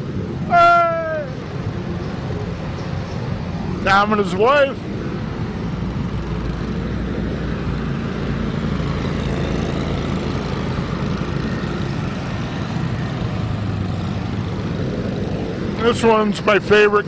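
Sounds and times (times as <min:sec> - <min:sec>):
small engines driving past: 0:00.0 - 0:16.4.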